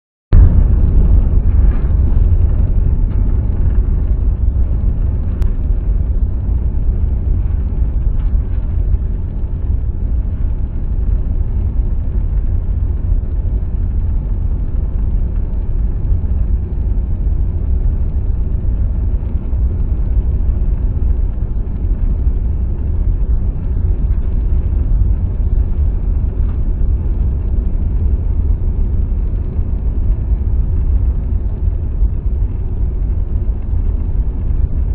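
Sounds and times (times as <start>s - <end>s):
jet airliner cabin rumble: 0.3s - 34.9s.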